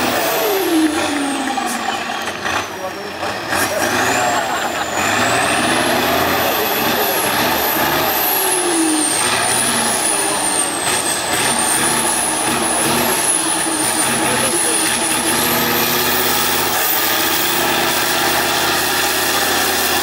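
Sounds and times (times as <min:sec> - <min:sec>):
diesel truck engine under load: 0:00.0 - 0:20.0.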